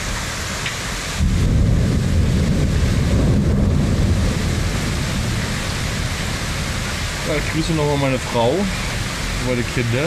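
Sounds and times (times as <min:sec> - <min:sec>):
heavy rain: 0:00.0 - 0:10.0
thunder rumbling: 0:00.0 - 0:10.0.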